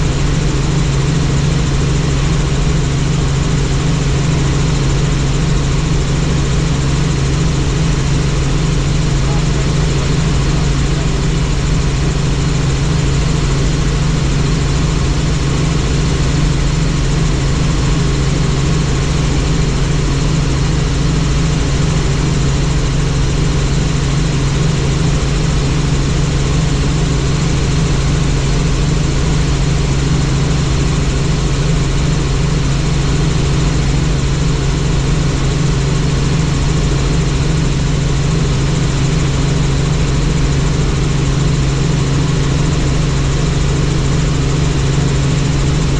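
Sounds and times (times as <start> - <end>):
helicopter engine running: 0.0 - 45.9
helicopter rotor chop: 0.0 - 45.9.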